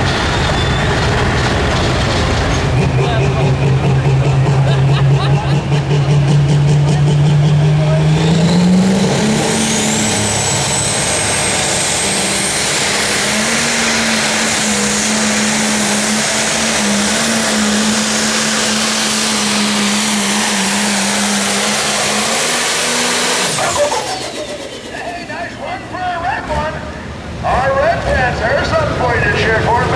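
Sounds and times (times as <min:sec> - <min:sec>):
diesel engine droning under load: 0:00.0 - 0:29.9.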